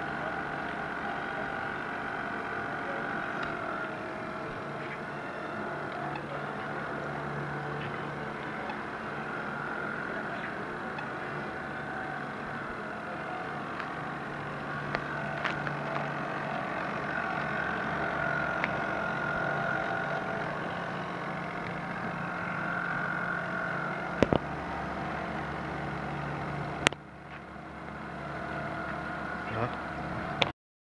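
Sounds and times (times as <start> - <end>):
model boat motor whining: 0.0 - 30.5.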